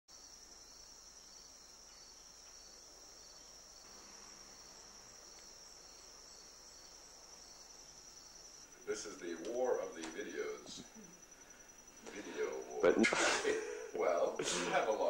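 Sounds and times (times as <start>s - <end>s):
insects trilling: 0.1s - 15.0s
pulsing insect chirp: 0.1s - 15.0s.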